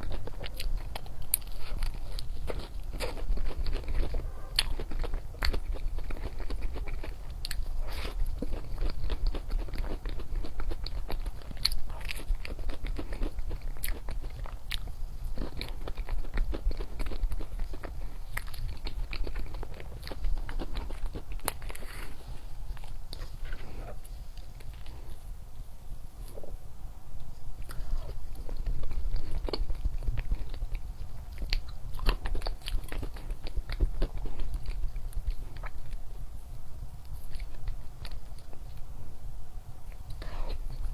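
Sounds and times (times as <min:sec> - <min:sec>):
chocolate crunching while chewed: 0:00.0 - 0:25.2, 0:27.6 - 0:36.0
steady low hum: 0:00.0 - 0:40.9.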